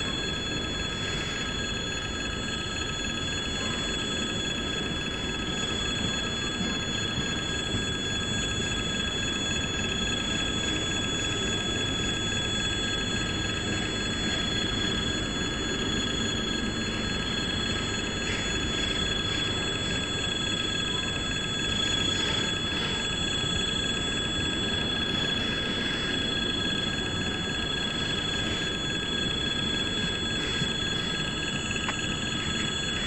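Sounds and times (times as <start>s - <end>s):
level-crossing warning bell: 0.0s - 33.0s.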